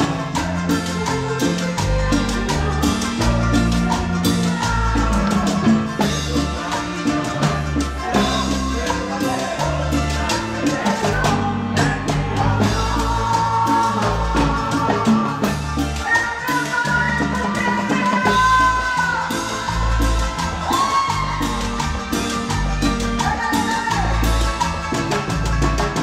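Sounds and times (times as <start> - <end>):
live tropical band music: 0.0 - 26.0.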